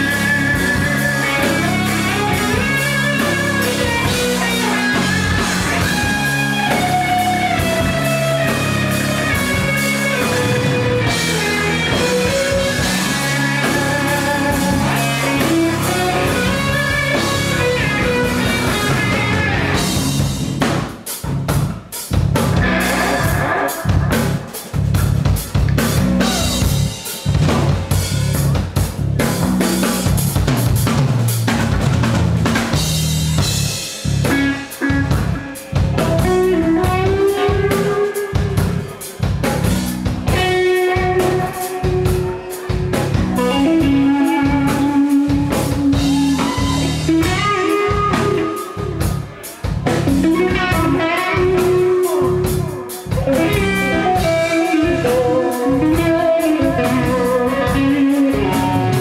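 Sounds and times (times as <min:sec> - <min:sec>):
rock music: 0:00.0 - 0:59.0.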